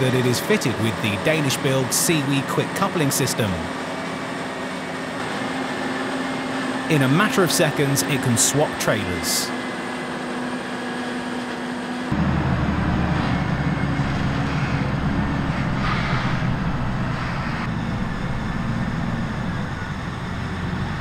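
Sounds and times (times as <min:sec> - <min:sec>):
deep engine drone: 0:00.0 - 0:21.0
diesel engines running: 0:00.0 - 0:21.0.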